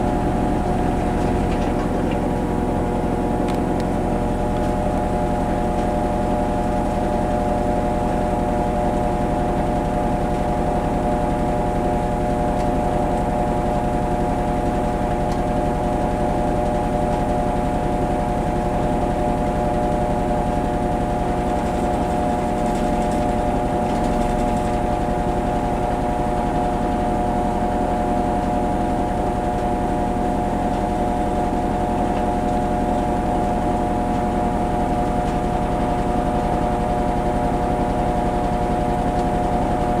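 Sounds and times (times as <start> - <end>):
washing machine spinning: 0.0 - 40.0.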